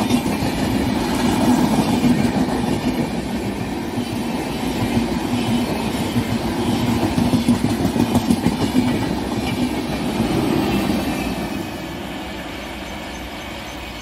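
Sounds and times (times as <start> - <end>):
train wheels clattering over rails: 0.0 - 14.0.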